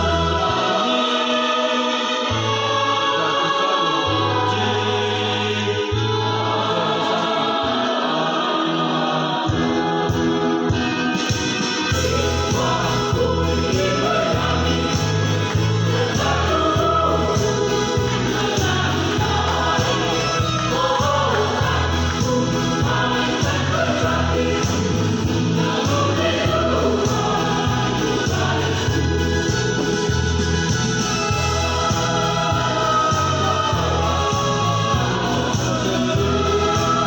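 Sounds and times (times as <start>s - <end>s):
choir singing a hymn: 0.0s - 37.0s.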